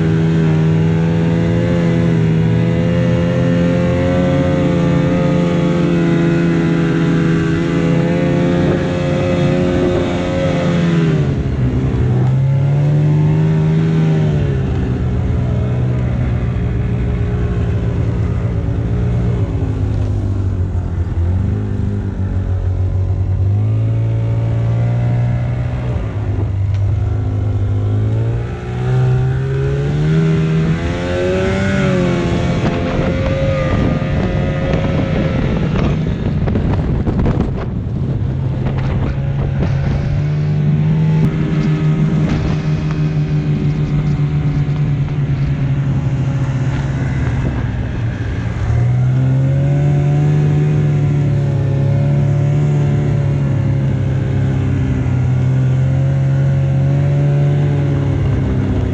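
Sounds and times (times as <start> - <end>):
snowmobile engine running: 0.0 - 58.9.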